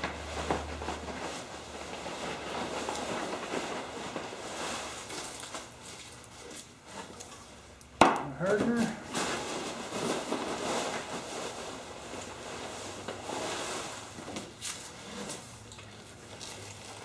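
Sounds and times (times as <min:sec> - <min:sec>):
packing peanuts rustling: 0:00.0 - 0:07.6, 0:08.3 - 0:17.0.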